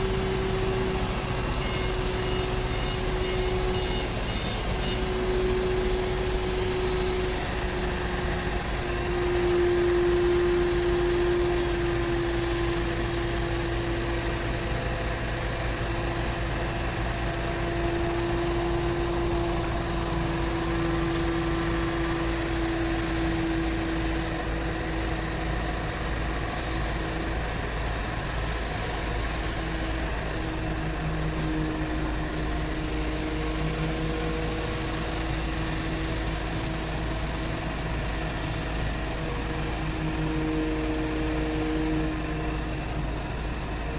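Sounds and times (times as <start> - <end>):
crane engine running: 0.0 - 43.9
steady whine: 0.0 - 43.9.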